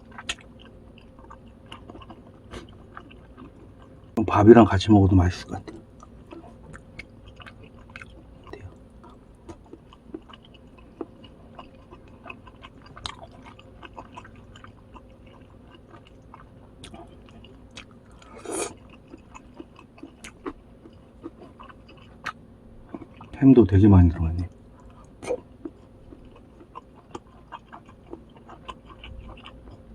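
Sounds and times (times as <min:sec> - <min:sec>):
chewing and biting food: 0:00.0 - 0:04.2, 0:05.6 - 0:23.4, 0:24.6 - 0:29.9.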